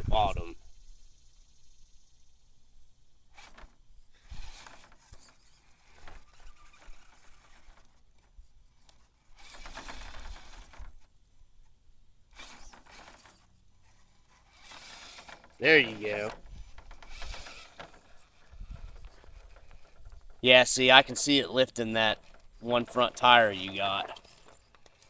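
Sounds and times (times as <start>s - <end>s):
toy car motor whirring: 3.2s - 25.0s.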